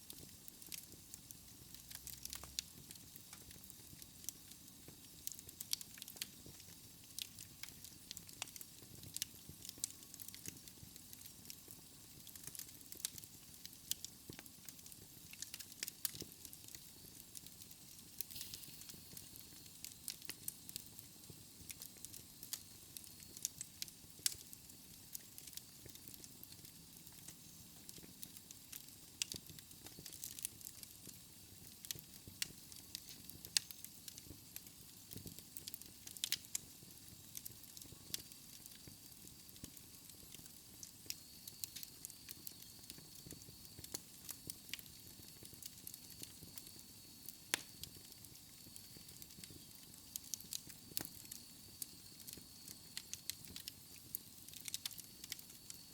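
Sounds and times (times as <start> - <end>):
fireplace fire crackling: 0.0 - 55.9.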